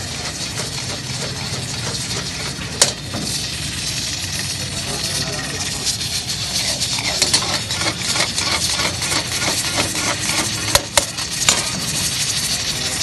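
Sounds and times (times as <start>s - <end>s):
oil sizzling: 0.0s - 13.0s
spatula scraping in wok: 0.0s - 13.0s.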